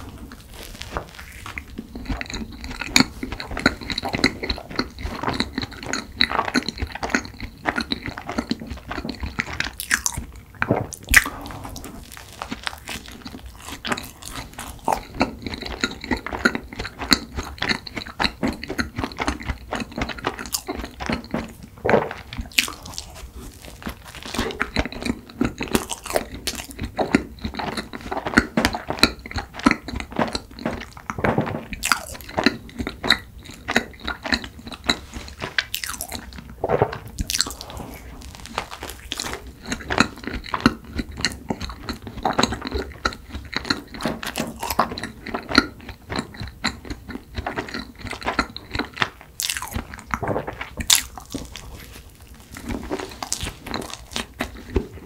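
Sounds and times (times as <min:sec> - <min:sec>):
chewing a soft donut: 0:00.0 - 0:55.0.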